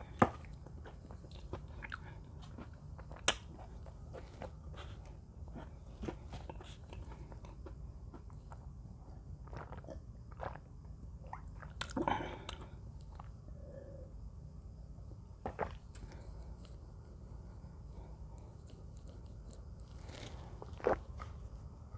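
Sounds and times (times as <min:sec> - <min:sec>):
cookies crunching being chewed: 0:00.0 - 0:13.5, 0:15.4 - 0:17.1, 0:17.9 - 0:21.9.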